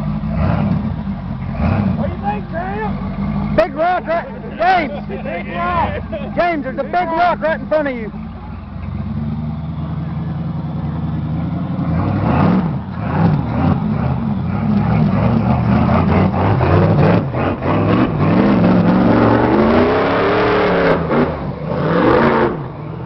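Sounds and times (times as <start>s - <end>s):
engine revving hard: 0.0s - 7.6s, 11.2s - 23.0s.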